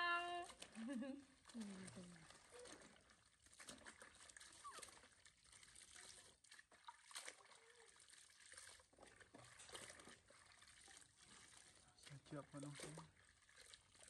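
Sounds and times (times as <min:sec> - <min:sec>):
water splashing and trickling: 0:00.0 - 0:14.0.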